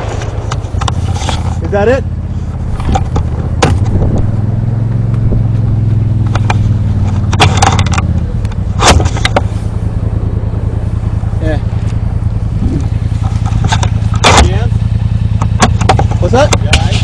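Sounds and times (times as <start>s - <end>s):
sharp cracks: 0.0s - 9.8s, 11.7s - 17.0s
engine idling: 0.0s - 17.0s.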